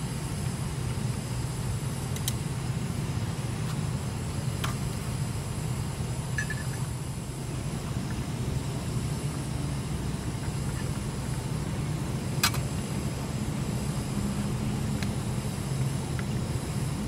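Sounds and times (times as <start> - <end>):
camp stove burning: 0.0 - 17.0
low traffic rumble: 0.0 - 17.0.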